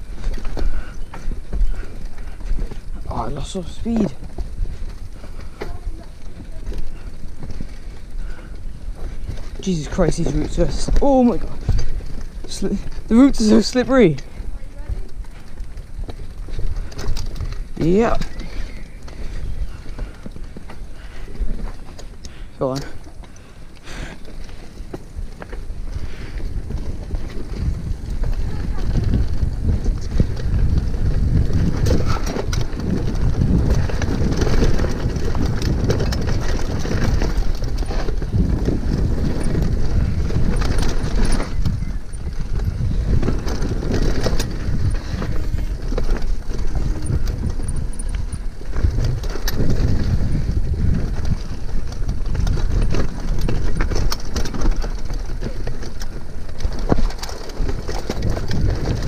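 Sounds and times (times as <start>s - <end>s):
bike clicking and rattling: 0.0s - 59.0s
tyres rumbling over dirt: 0.0s - 59.0s
wind buffeting microphone: 0.0s - 59.0s.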